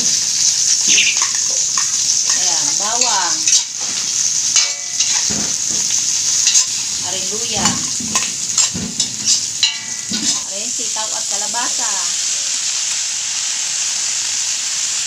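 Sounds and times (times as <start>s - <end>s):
metal utensil scraping wok: 0.0s - 12.9s
onion sizzling in hot oil: 0.0s - 15.0s.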